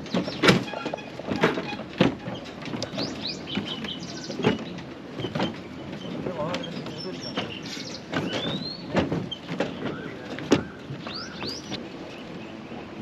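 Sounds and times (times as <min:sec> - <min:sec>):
footsteps on wire footbridge: 0:00.0 - 0:11.8
birds chirping: 0:00.0 - 0:13.0.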